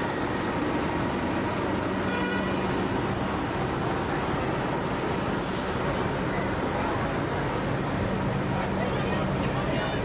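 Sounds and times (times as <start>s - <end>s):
city street traffic: 0.0s - 10.0s.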